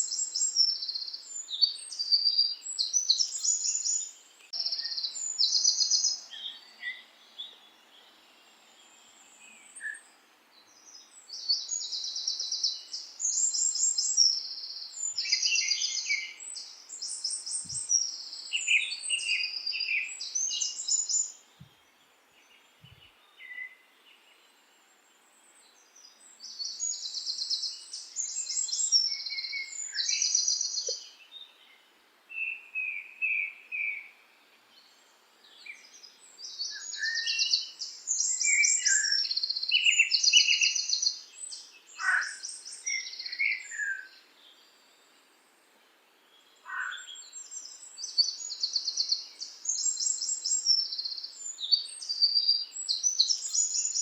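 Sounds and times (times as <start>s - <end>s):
songbirds trilled chirping: 0.0s - 54.0s.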